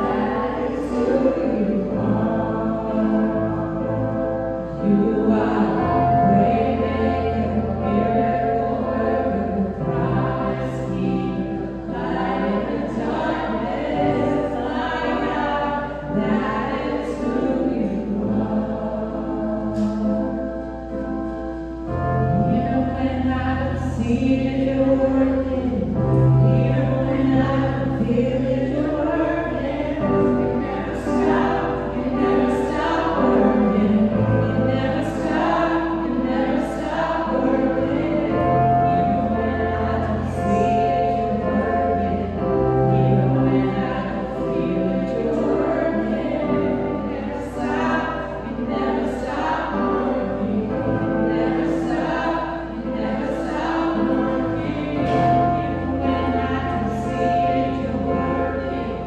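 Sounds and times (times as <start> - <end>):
keyboard playing sustained chords: 0.0 - 59.0
women singing: 0.0 - 59.0.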